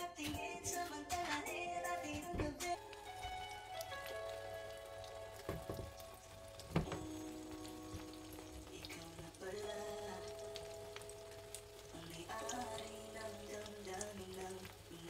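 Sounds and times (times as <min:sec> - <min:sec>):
omelette sizzling in a pan: 0:02.8 - 0:15.0.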